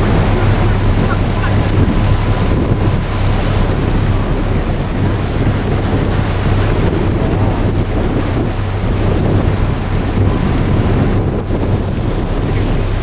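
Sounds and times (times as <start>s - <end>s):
low engine drone: 0.0s - 13.0s
water rushing: 0.0s - 13.0s
wind buffeting microphone: 0.0s - 13.0s.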